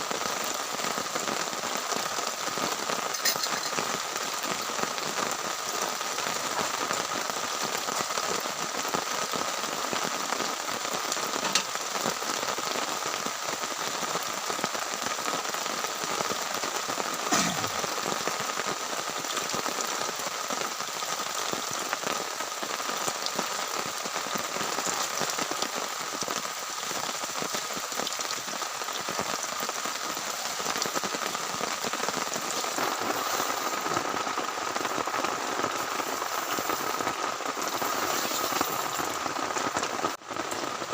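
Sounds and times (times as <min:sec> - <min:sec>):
heavy rain on a tent: 0:00.0 - 0:40.9
louder raindrops: 0:00.0 - 0:40.9.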